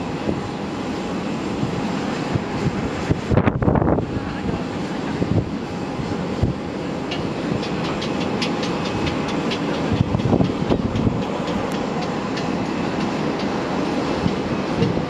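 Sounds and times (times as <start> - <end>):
distant turboprop engines rumbling: 0.0 - 15.0.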